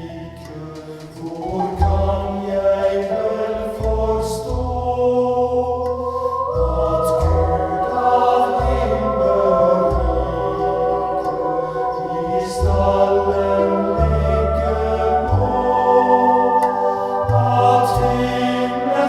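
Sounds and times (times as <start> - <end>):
choir singing: 0.0 - 19.0
deep bass notes: 0.0 - 19.0.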